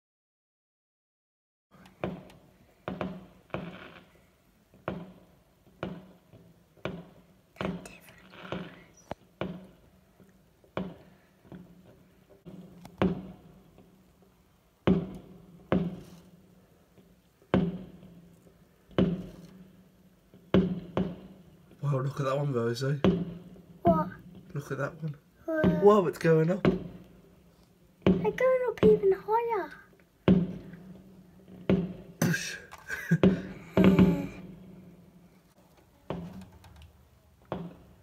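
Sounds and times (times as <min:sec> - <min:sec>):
fireworks bangs with echo: 0:02.0 - 0:09.8, 0:10.7 - 0:14.0, 0:14.8 - 0:16.4, 0:17.0 - 0:29.5, 0:30.1 - 0:35.2.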